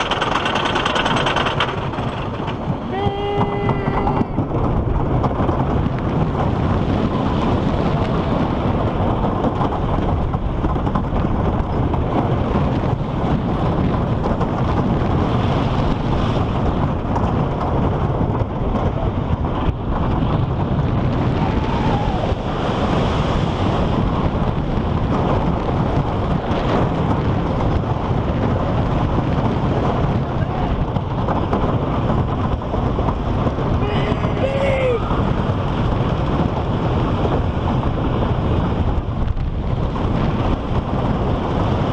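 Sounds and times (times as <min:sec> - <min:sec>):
roller coaster wheels rumbling on track: 0:00.0 - 0:41.9
wind noise on microphone: 0:00.0 - 0:41.9.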